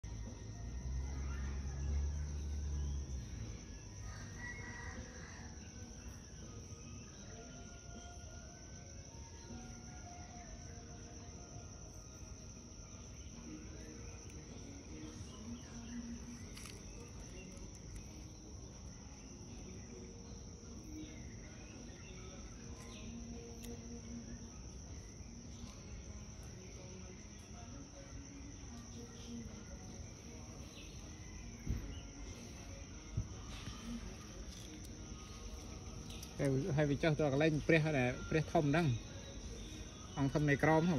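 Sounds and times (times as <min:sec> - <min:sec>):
faint outdoor background noise: 0:00.0 - 0:40.9
insect chorus: 0:00.0 - 0:40.9.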